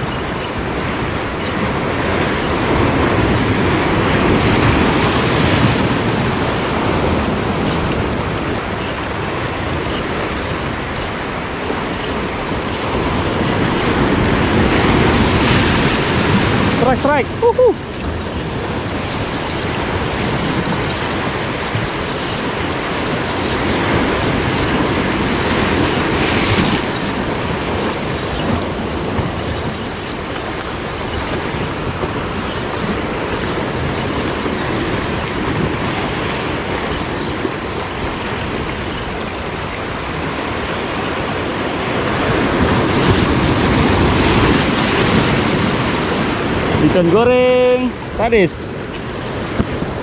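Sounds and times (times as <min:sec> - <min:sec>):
surf breaking over rocks: 0:00.0 - 0:50.0.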